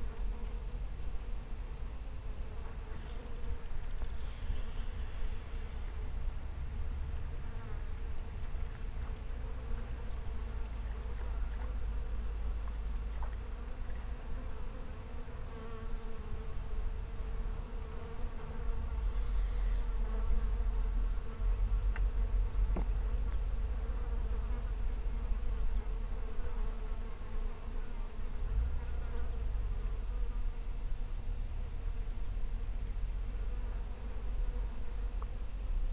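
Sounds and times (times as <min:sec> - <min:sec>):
flying insects buzzing: 0:00.0 - 0:35.9.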